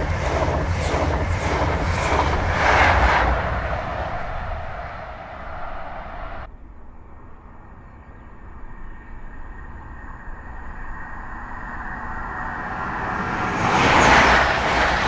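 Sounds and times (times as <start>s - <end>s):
train rumbling: 0.0s - 6.5s, 9.4s - 15.0s.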